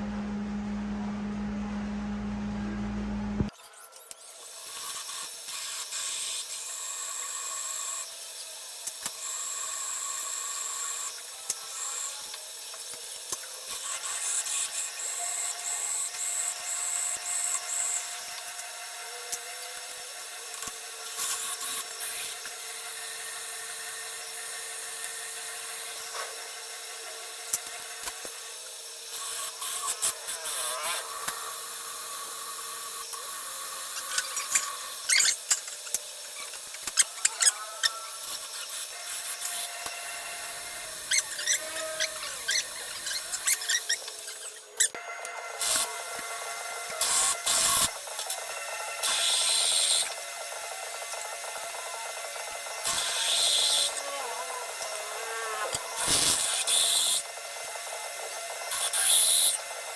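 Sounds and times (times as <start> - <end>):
power tool motor running: 0.0 - 59.9.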